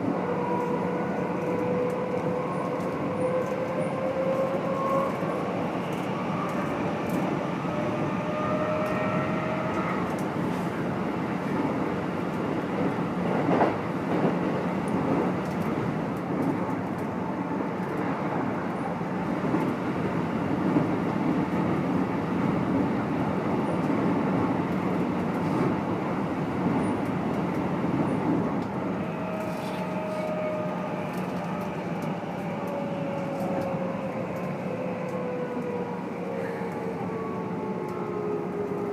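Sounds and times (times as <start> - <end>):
train rolling noise: 0.0 - 38.9.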